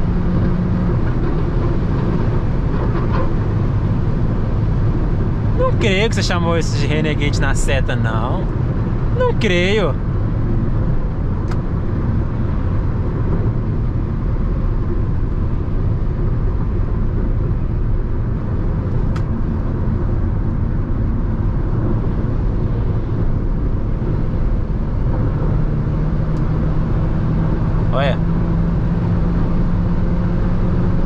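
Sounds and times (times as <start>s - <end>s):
wind and road noise in car: 0.0s - 31.0s.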